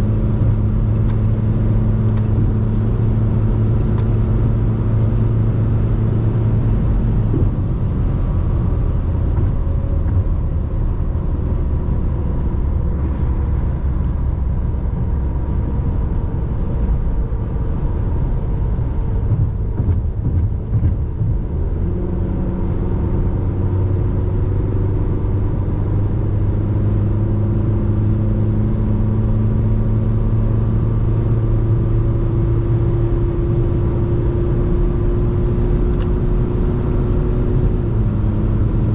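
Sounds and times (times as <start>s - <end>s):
diesel engine running: 0.0s - 31.4s
road noise: 0.0s - 38.9s.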